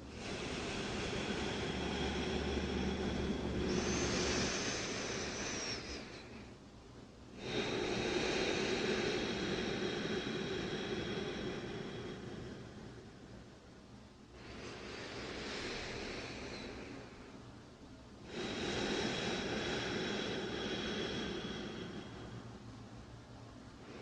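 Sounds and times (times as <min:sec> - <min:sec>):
deep breathing: 0:00.0 - 0:24.0.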